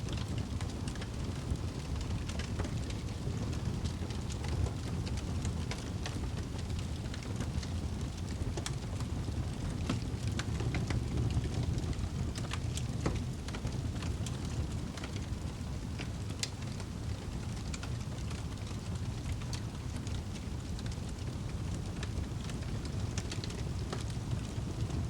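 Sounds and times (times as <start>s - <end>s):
fire burning in fireplace: 0.0s - 25.0s.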